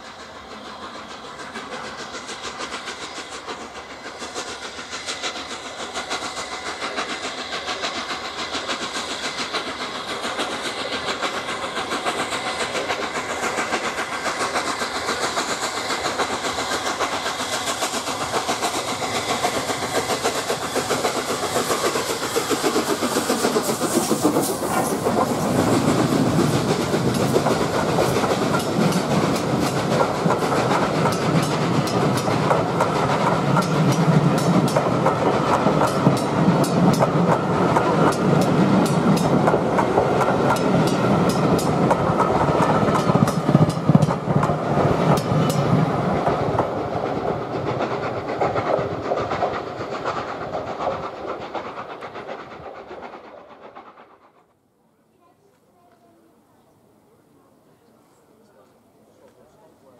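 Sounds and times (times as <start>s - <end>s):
train wheels clacking over rail joints: 0.0s - 54.5s
steam locomotive passing at speed: 0.0s - 59.9s.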